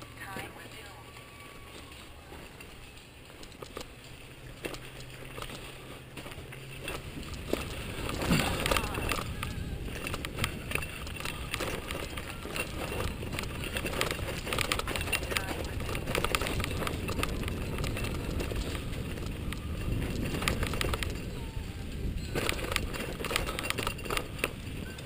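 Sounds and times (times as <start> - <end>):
bike tyres crunching over stones: 0.0 - 25.0
bike rattling and knocking: 1.6 - 25.0.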